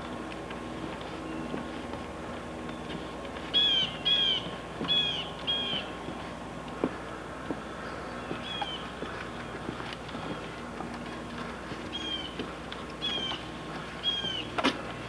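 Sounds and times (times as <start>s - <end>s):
steady recording hum: 0.0s - 15.0s.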